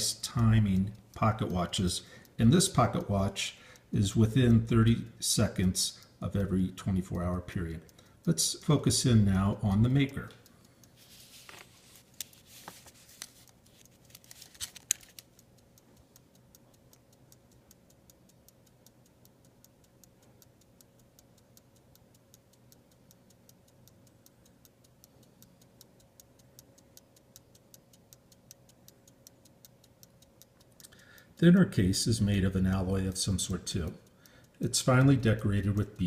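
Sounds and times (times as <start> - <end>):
pocket watch ticking: 0.0 - 11.0, 13.2 - 36.0.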